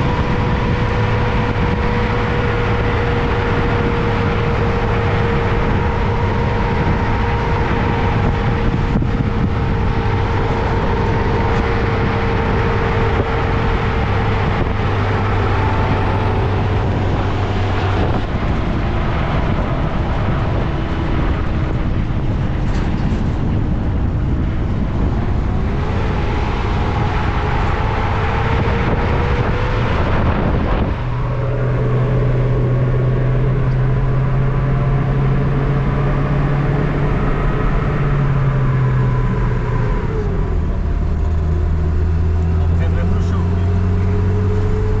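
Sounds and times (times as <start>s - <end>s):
road noise: 0.0s - 45.0s
vehicle engine driving: 0.0s - 45.0s.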